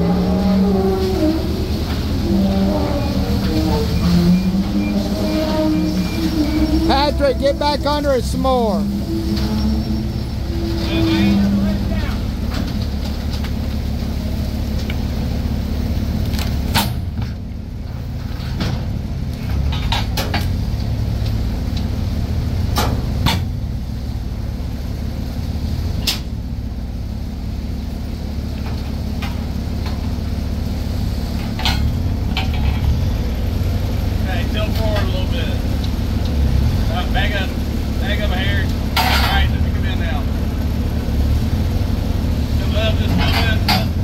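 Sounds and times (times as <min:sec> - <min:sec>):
forklift engine running: 0:00.0 - 0:44.0.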